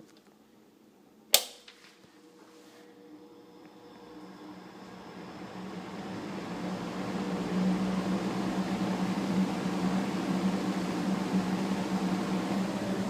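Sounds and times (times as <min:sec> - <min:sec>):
electric exhaust fan running: 0:01.4 - 0:13.0.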